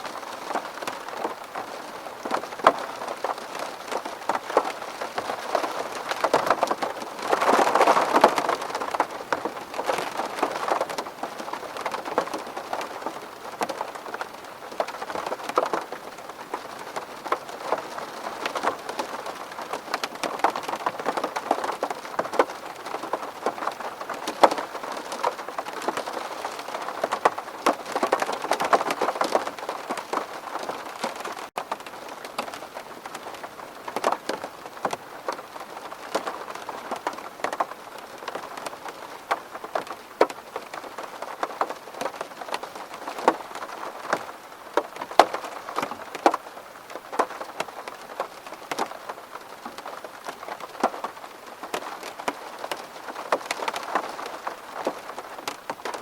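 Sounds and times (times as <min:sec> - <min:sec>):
rain pattering on window glass: 0:00.0 - 0:56.0.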